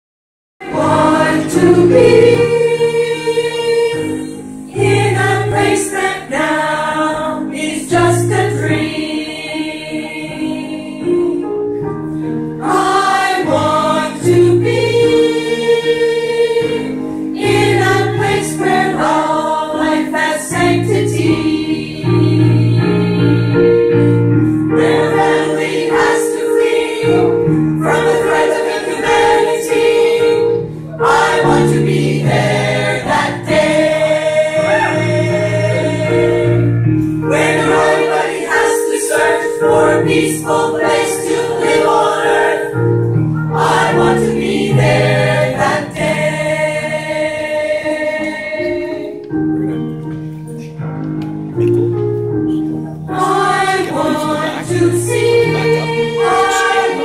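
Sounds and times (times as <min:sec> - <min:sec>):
women's choir singing: 0:00.6 - 0:49.6, 0:52.9 - 0:57.0.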